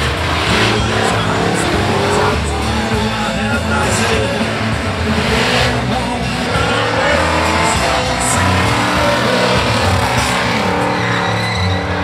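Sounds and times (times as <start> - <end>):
background music: 0.0 - 12.0
car engine revving hard: 0.0 - 12.0.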